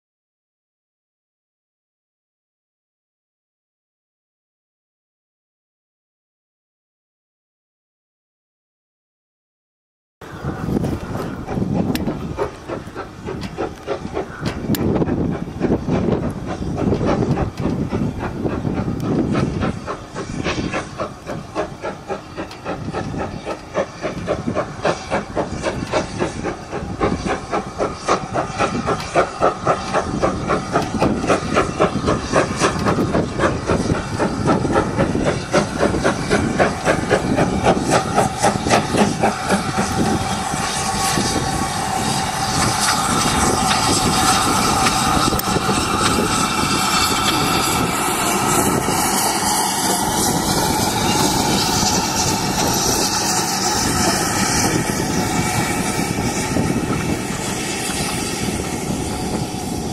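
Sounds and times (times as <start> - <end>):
steam hiss: 10.2 - 59.9
steam locomotive exhaust beats: 10.2 - 59.9
train rolling past: 10.2 - 59.9.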